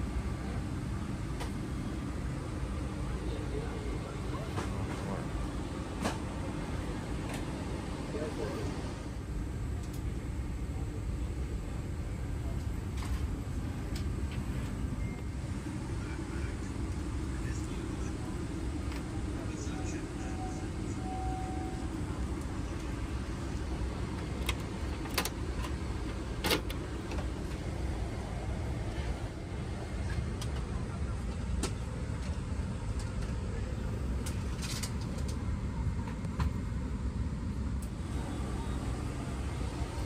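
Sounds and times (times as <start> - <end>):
low cabin rumble: 0.0 - 40.0.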